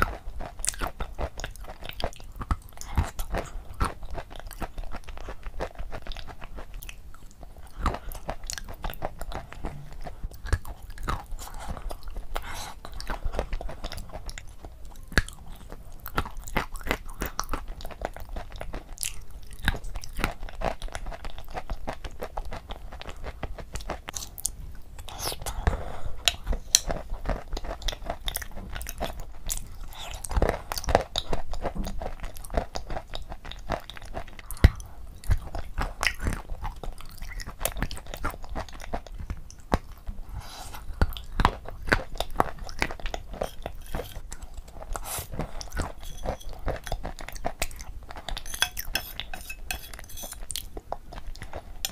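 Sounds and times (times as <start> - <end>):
wet chewing and smacking: 0.0 - 51.9.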